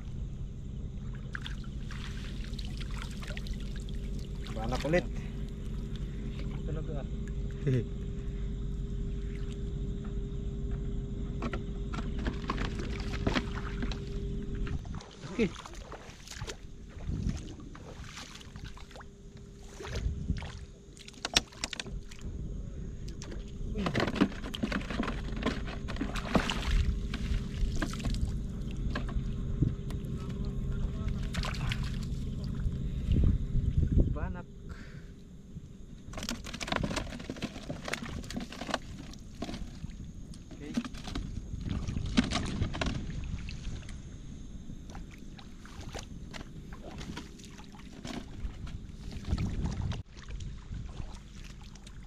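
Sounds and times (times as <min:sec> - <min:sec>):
low steady rumble: 0:00.0 - 0:52.0
seawater splashing and sloshing: 0:01.0 - 0:06.7, 0:11.9 - 0:22.3, 0:23.0 - 0:34.0, 0:36.0 - 0:52.0.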